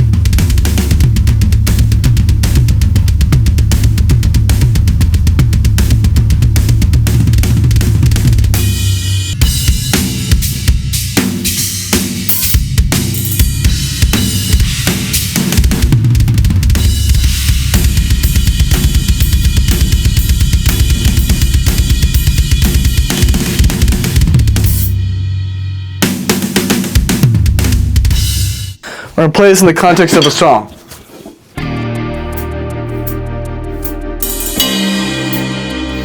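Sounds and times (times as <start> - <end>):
drum kit playing fills: 0.0 - 36.0.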